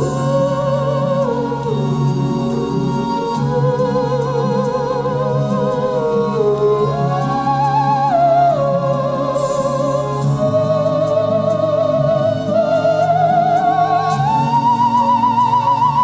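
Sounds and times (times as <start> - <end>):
lower accompaniment: 0.0 - 16.0
theremin melody: 0.0 - 16.0.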